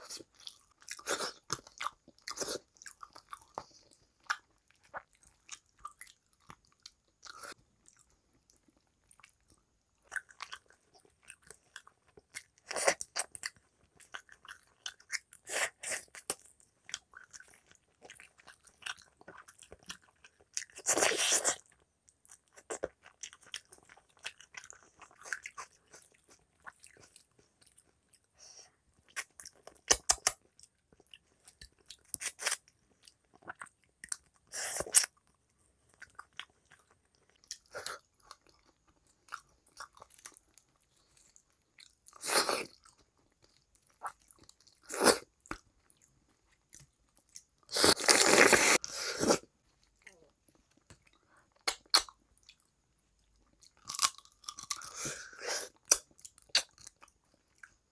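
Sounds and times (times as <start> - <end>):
person chewing and smacking: 0.0 - 57.9.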